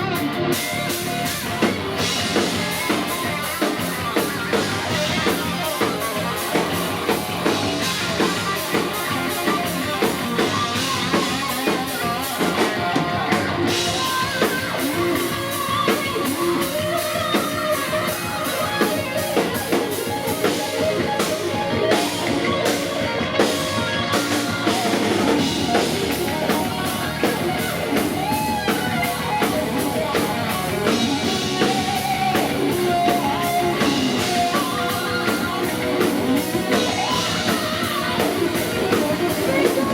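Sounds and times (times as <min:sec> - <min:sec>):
distorted electric guitars: 0:00.0 - 0:39.9
drum kit beat: 0:00.0 - 0:39.9
heavy metal band playing: 0:00.0 - 0:39.9.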